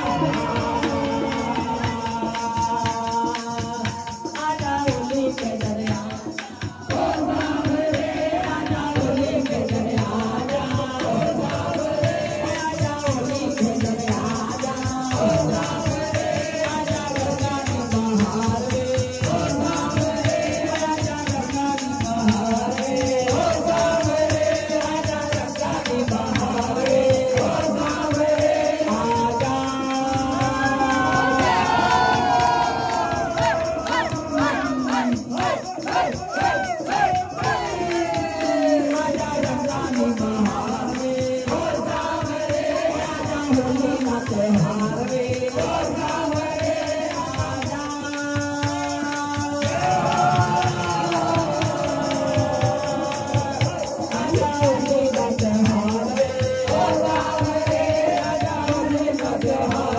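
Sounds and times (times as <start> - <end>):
devotional song over pa: 0.0 - 59.9
percussion beat: 0.0 - 59.9.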